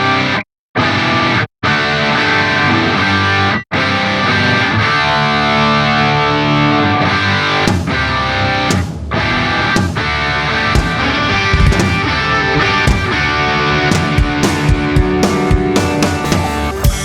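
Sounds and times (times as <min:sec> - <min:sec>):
distorted electric guitar rock: 0:00.0 - 0:17.0.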